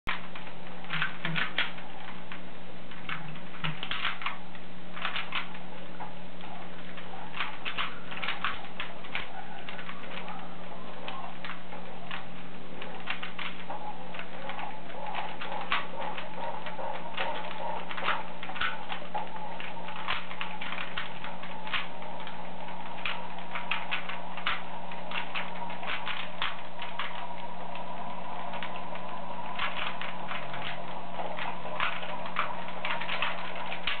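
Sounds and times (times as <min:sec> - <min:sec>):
plastic cube clicks: 0:00.1 - 0:05.6, 0:06.4 - 0:10.4, 0:11.0 - 0:34.0
steady low hum: 0:00.1 - 0:34.0.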